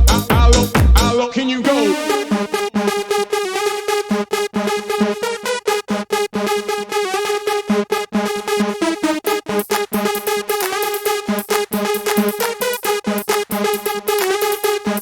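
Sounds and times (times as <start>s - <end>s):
electronic dance music synth riff: 0.0s - 15.0s.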